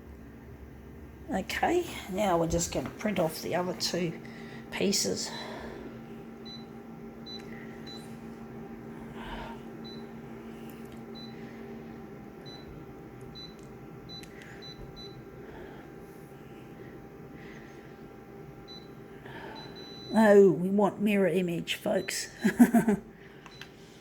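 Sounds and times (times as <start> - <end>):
low hum: 0.0 - 21.6
photocopier humming: 0.0 - 24.0.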